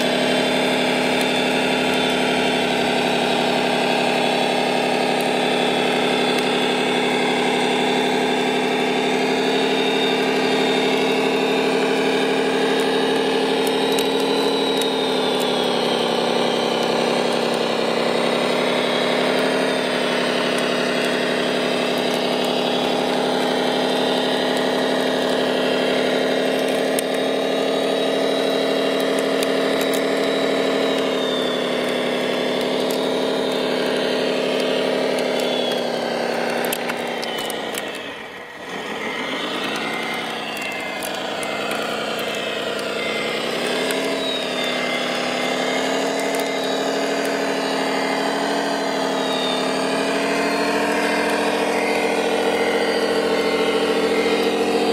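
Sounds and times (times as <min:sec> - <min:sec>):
model bulldozer engine drone: 0:00.0 - 0:54.9.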